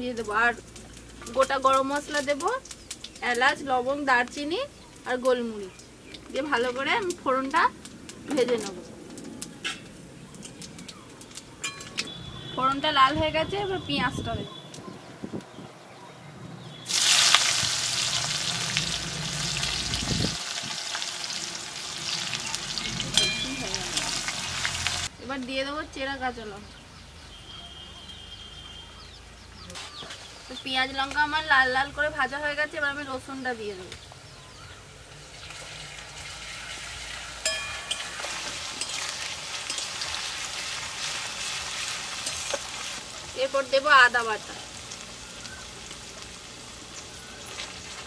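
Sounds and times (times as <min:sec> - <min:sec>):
onions sizzling in hot oil: 0:00.0 - 0:12.2, 0:16.9 - 0:25.7, 0:29.8 - 0:48.0.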